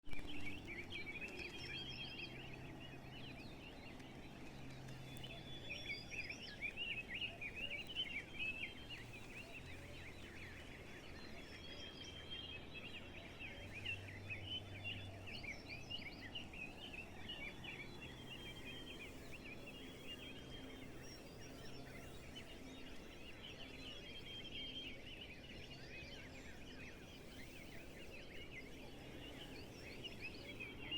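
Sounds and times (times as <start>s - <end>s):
birds chirping: 0.1s - 30.9s.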